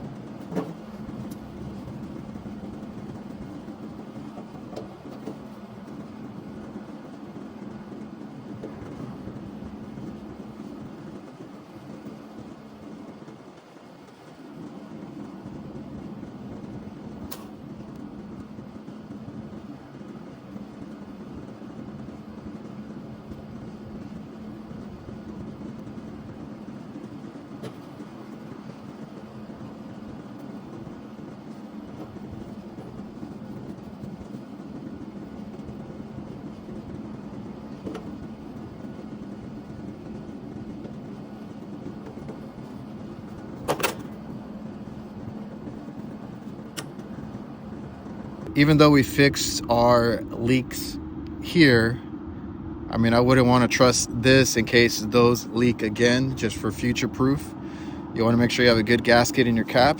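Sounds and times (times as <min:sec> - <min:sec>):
low mechanical hum of machinery: 0:00.0 - 0:59.9.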